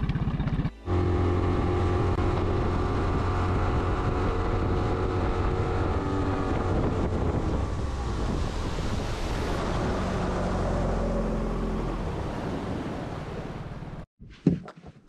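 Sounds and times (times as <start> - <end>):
wind: 0.0 - 15.0
outboard motor running: 0.2 - 14.0
water noise: 0.7 - 14.1.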